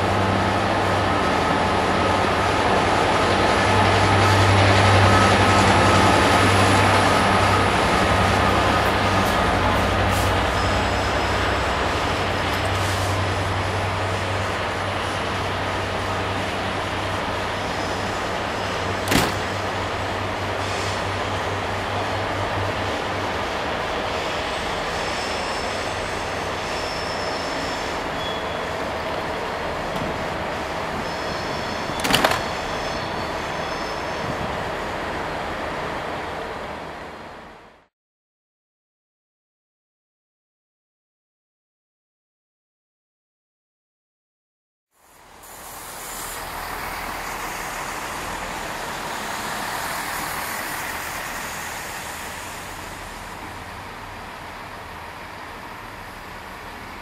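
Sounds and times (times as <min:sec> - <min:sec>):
diesel locomotive rumbling: 0:00.0 - 0:37.8, 0:45.0 - 0:57.0
train wheel and rail noise: 0:00.0 - 0:37.9, 0:44.9 - 0:57.0.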